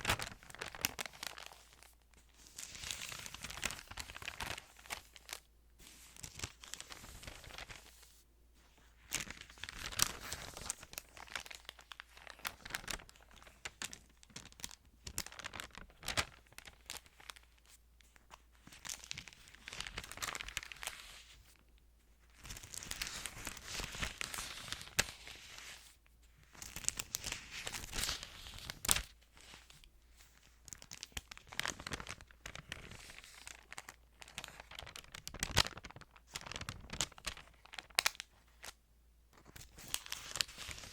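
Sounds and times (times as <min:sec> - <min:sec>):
thin pages rustling and turning: 0:00.0 - 0:21.6, 0:22.4 - 0:38.8, 0:39.4 - 0:40.9.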